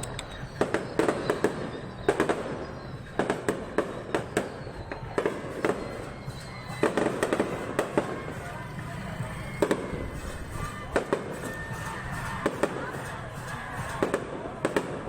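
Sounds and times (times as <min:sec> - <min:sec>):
firework shell bursts: 0:00.0 - 0:14.2
rumble of explosions: 0:00.0 - 0:15.0.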